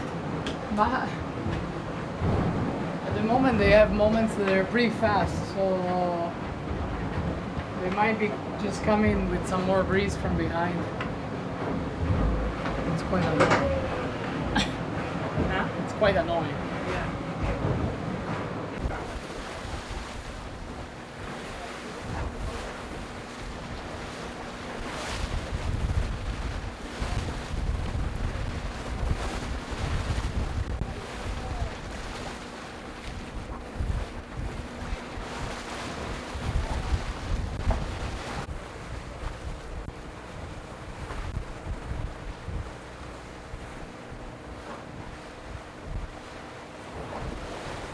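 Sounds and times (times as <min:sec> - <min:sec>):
rushing water: 0:00.0 - 0:47.9
wind: 0:00.0 - 0:47.9
wind buffeting microphone: 0:00.0 - 0:47.9.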